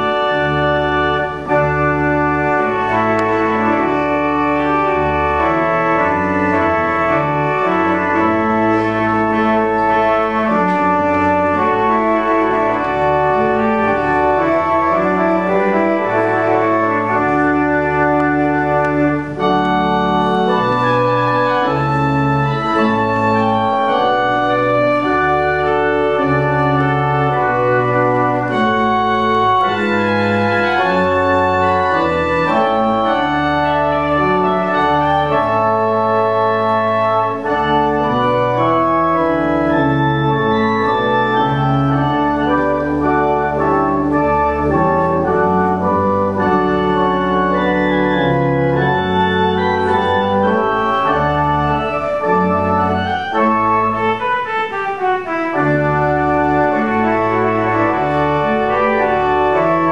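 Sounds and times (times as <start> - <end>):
pipe organ playing chords: 0.0 - 59.9.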